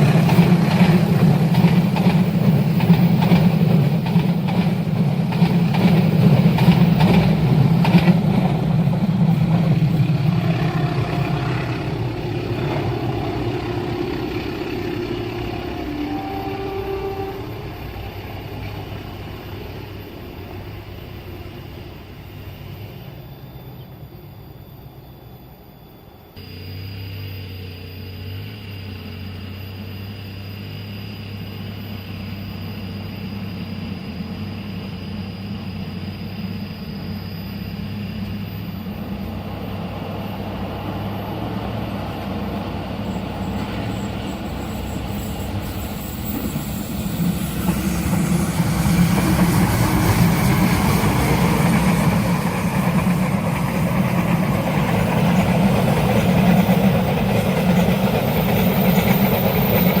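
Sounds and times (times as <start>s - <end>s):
train rumbling on rails: 0.0s - 26.5s, 28.2s - 60.0s.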